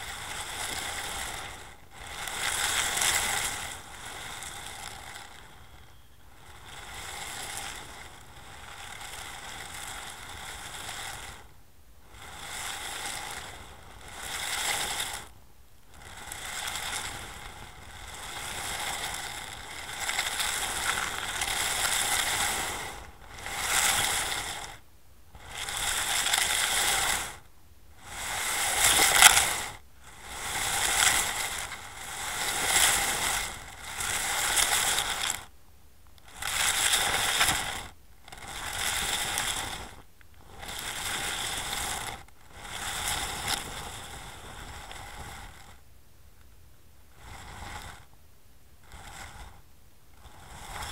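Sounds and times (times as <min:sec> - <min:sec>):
lead grinding over shingle seabed: 0:00.0 - 0:11.5, 0:12.1 - 0:15.4, 0:16.0 - 0:24.8, 0:25.4 - 0:35.6, 0:36.2 - 0:45.7.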